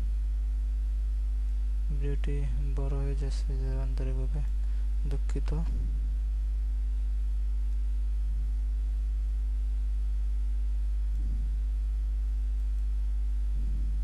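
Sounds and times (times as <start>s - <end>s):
low electrical mains hum: 0.0s - 14.0s.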